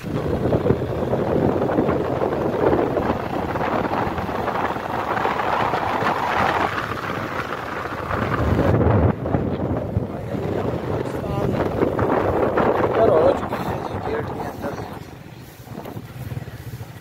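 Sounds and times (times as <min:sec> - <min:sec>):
road noise: 0:00.0 - 0:17.0
wind rushing over microphone: 0:00.0 - 0:17.0.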